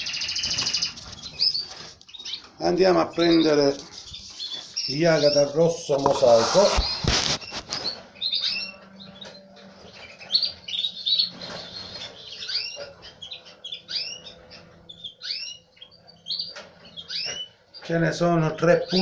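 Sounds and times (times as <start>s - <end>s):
canaries chirping: 0.0s - 19.0s.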